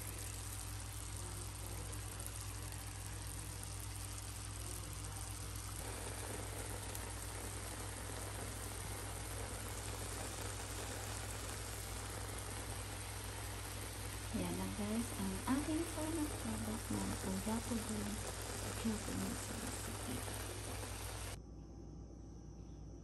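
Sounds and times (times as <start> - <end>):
food simmering and sizzling in pan: 0.0 - 21.4
low steady hum: 0.0 - 23.0.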